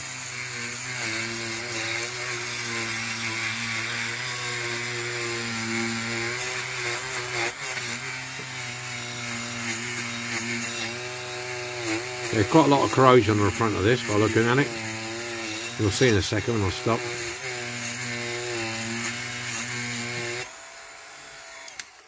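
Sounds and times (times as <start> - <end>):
rotary tool grinding: 0.0 - 22.0.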